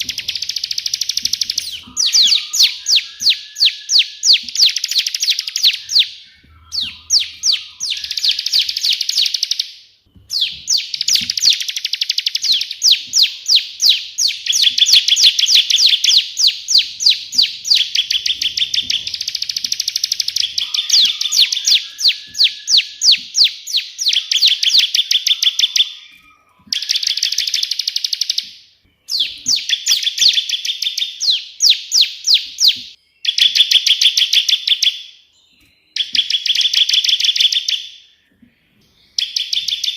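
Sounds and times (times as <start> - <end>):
bird singing rapid notes: 0.0 - 39.9.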